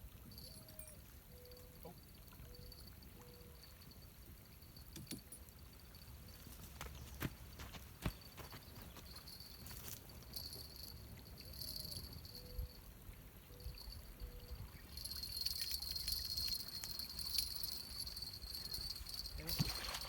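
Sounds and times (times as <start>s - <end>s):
light water sounds: 0.0s - 8.2s, 8.8s - 20.0s.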